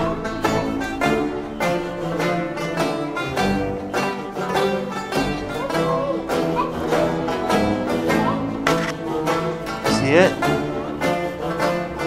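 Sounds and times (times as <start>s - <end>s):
plucked string instrumental music: 0.0s - 12.0s.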